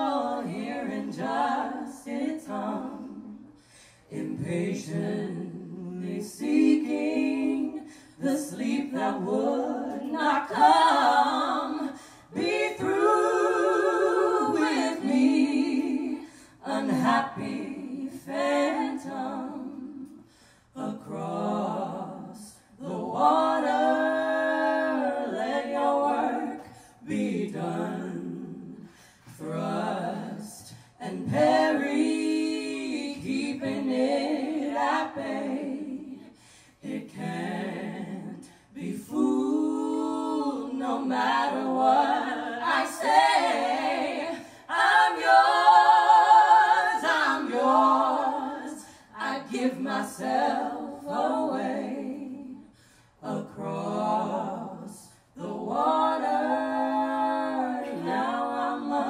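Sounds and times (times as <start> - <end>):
women singing in harmony: 0.0 - 59.0.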